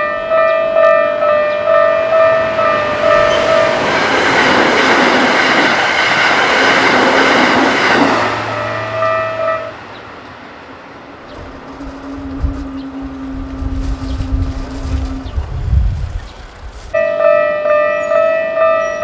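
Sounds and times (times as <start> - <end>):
level crossing warning bell: 0.0 - 13.2, 16.9 - 19.0
train rushing past: 0.0 - 17.0.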